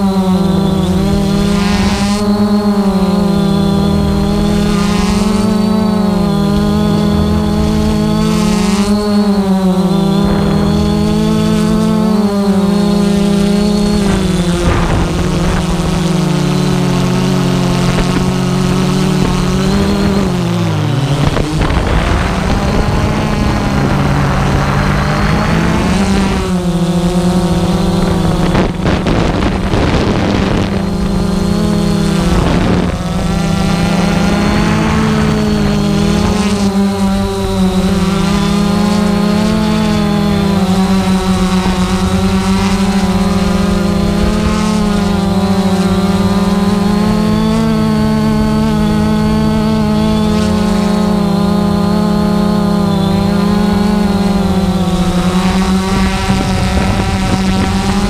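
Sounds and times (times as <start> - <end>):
drone propellers buzzing: 0.0 - 58.0
wind noise on microphone: 0.0 - 58.0.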